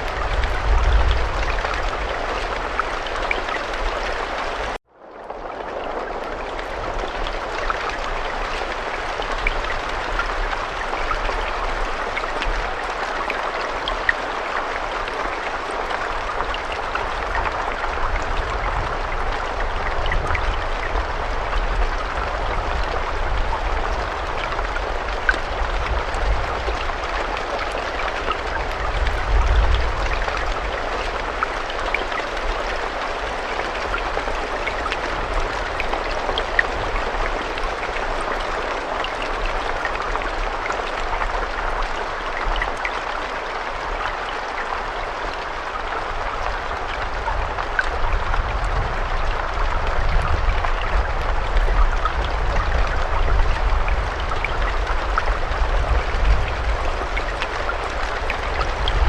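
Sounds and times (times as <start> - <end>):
rain drop ticks: 0.0 - 59.0
steady rain falling: 0.0 - 59.0.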